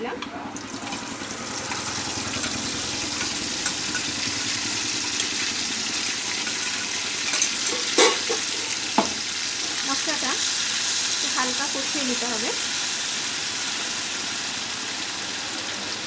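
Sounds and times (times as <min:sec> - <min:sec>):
spice paste sizzling in oil: 0:00.5 - 0:16.0.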